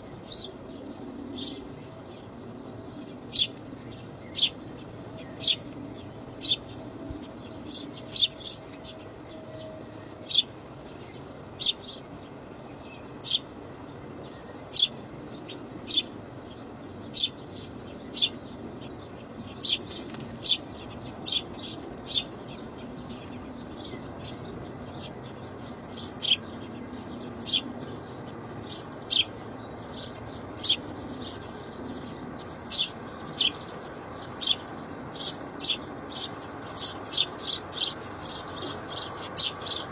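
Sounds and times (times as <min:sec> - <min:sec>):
bird chirping: 0:00.0 - 0:39.9
low background hum: 0:00.0 - 0:39.9.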